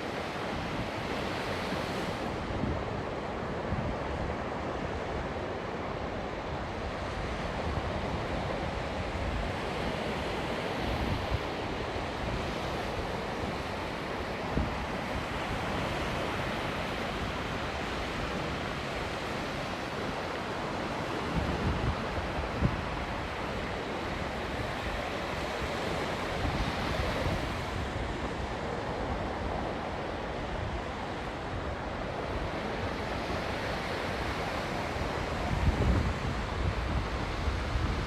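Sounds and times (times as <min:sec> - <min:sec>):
sea waves breaking on beach: 0:00.0 - 0:38.0.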